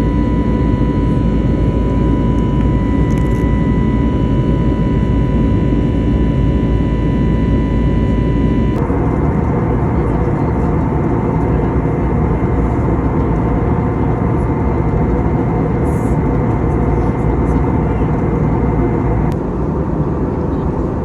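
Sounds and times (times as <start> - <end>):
faint high whine: 0.0 - 19.4
low hum of jet engine: 0.0 - 21.0.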